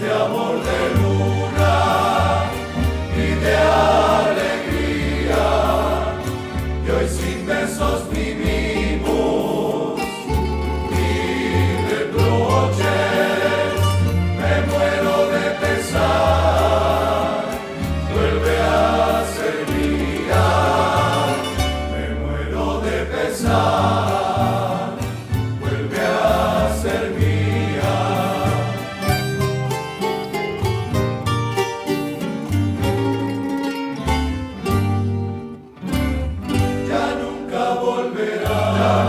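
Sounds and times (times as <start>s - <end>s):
held bass notes: 0.0s - 39.0s
string ensemble playing: 0.0s - 39.0s.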